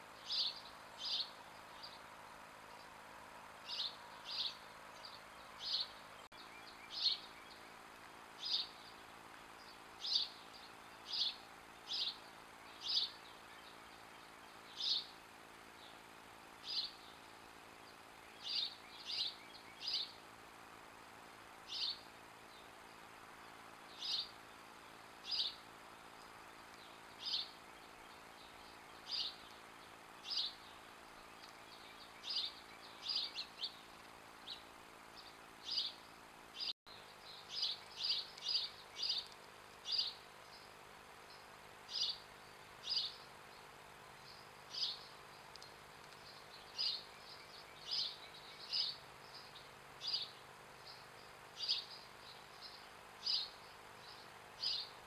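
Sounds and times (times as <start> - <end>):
bird chirping: 0.0 - 20.4, 21.6 - 55.0
faint steady hiss: 0.0 - 55.0.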